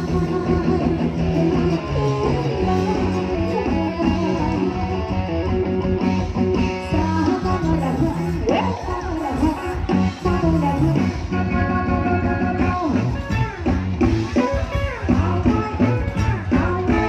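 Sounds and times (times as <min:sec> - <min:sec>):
bass guitar: 0:00.0 - 0:17.0
electric guitar melody: 0:00.0 - 0:17.0
steady drum beat: 0:00.0 - 0:17.0.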